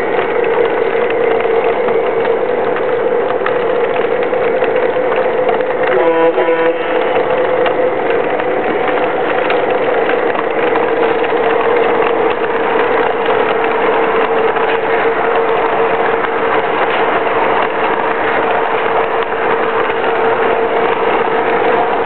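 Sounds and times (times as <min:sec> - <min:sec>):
model train wheels clattering: 0:00.0 - 0:22.0.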